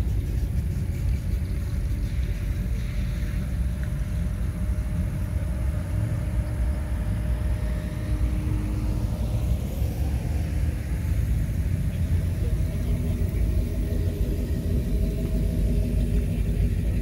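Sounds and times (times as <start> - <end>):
cars driving slowly past: 0.0 - 17.0.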